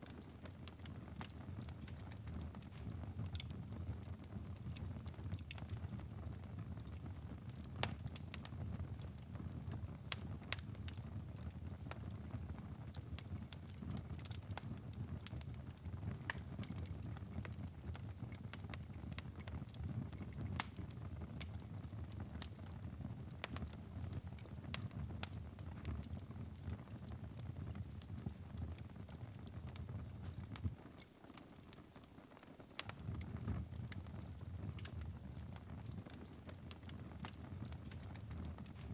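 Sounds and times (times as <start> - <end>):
wood fire pops and snaps: 0.0 - 6.1, 6.7 - 38.9
low rumble of flames: 0.0 - 31.1, 32.7 - 38.9.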